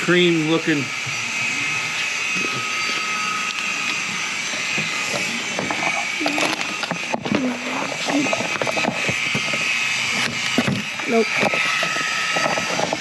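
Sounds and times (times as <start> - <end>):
machine whining: 0.0 - 13.0.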